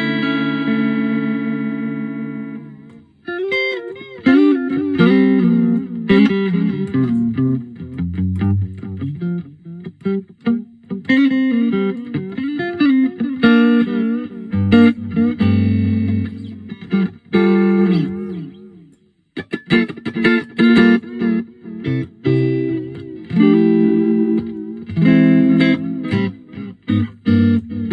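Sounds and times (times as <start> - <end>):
electric guitar with delay: 0.0 - 27.9.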